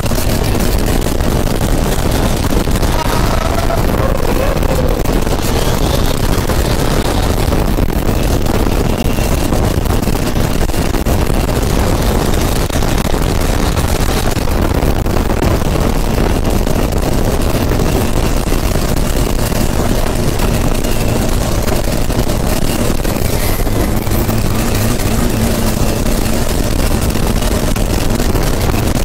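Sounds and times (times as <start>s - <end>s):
boat engine running under load: 0.0s - 29.0s
rushing wake water: 0.0s - 29.0s.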